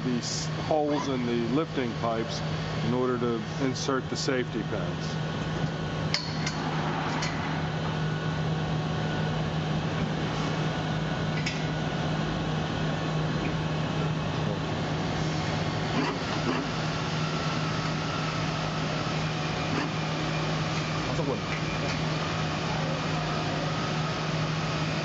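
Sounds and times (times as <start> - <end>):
electric winch humming: 0.0 - 25.0.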